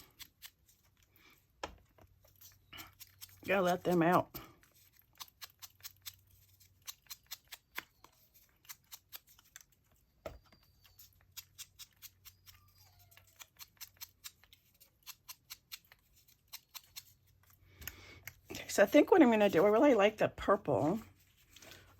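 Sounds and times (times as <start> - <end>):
scissors snipping paper: 0.0 - 1.0, 2.2 - 9.8, 10.4 - 19.9.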